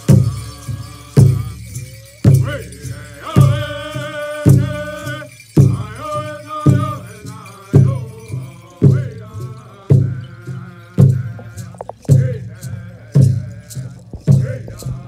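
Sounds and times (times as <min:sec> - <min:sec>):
large drum beating steadily: 0:00.0 - 0:15.0
men chanting together: 0:00.0 - 0:15.0.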